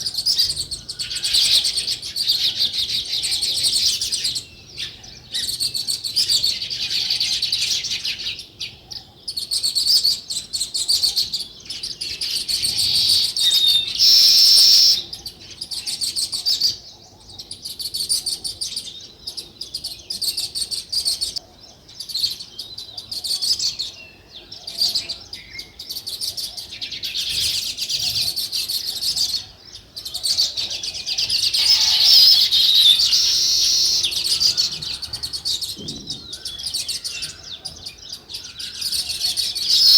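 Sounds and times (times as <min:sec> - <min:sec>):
sparrows chirping rapidly: 0:00.0 - 0:39.9.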